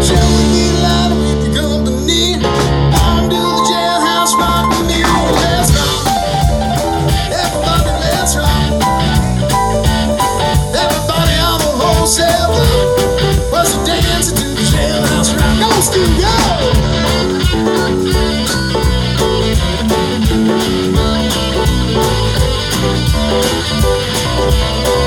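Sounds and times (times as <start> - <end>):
drum kit: 0.0 - 25.0
electric guitar lead: 0.0 - 25.0
keyboard: 0.0 - 25.0.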